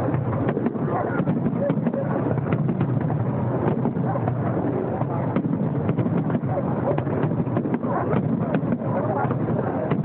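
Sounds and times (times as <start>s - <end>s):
fireworks crackles and pops: 0.0s - 10.0s
low fireworks rumble: 0.0s - 10.0s
wind buffeting microphone: 0.0s - 10.0s.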